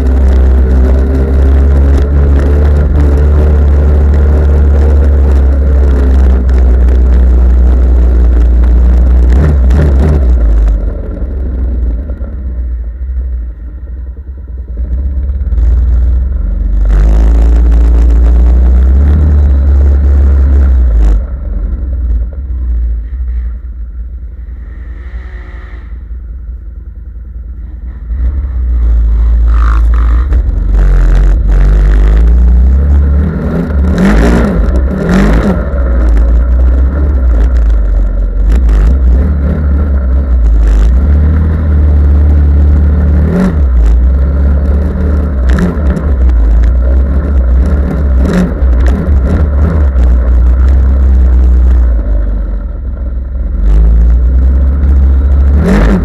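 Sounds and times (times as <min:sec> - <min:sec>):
off-road vehicle engine revving: 0:00.0 - 0:13.0, 0:14.6 - 0:23.7, 0:27.6 - 0:56.0.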